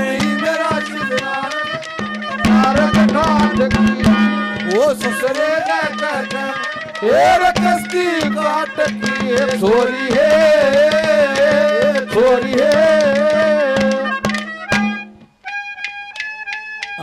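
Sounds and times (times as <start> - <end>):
hand drum strokes: 0.0 - 17.0
held notes: 0.0 - 17.0.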